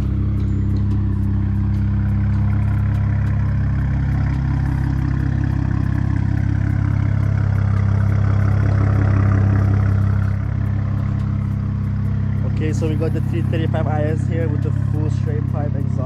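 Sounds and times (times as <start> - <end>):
car engine idling loudly: 0.0 - 16.0.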